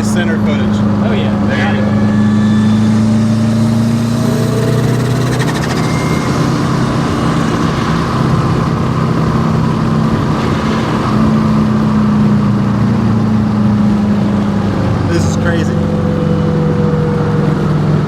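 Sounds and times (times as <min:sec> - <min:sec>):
rally car engine revving high: 0:00.0 - 0:18.0.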